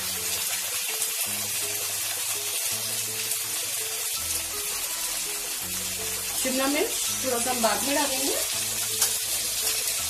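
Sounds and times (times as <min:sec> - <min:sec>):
soft background music: 0:00.0 - 0:10.0
vegetables sizzling in oil: 0:00.0 - 0:10.0.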